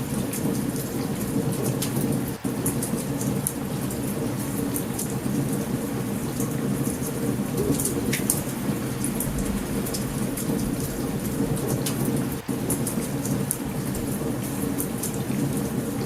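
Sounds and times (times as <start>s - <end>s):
low rumbling thunder: 0.0s - 16.0s
steady rain: 0.0s - 16.0s
campfire popping and crackling: 0.1s - 16.0s.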